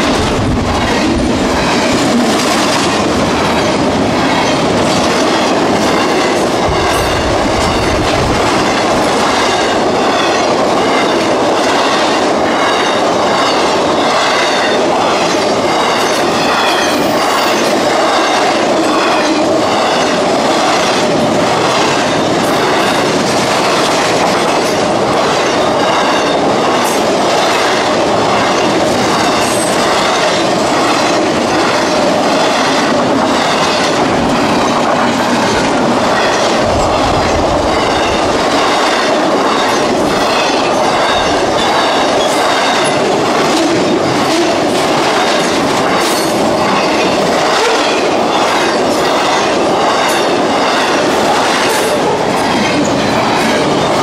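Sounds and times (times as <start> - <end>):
train wheels clacking: 0.0 - 54.0.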